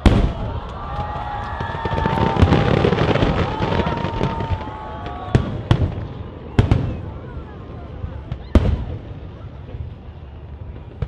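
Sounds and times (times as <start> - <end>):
fireworks crackling and popping: 0.0 - 11.0
fireworks sharp bangs: 0.0 - 11.0.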